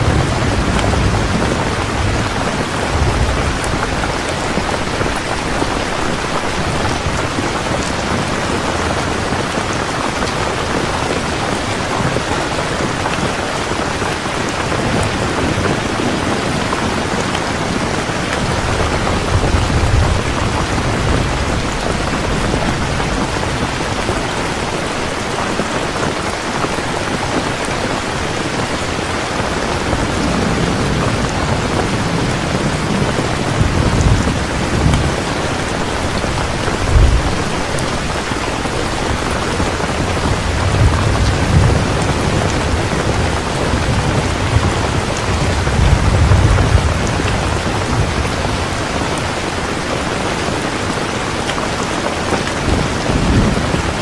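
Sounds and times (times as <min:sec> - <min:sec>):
thunder rumbling: 0:00.0 - 0:51.0, 0:52.2 - 0:54.0
heavy rain: 0:00.0 - 0:54.0.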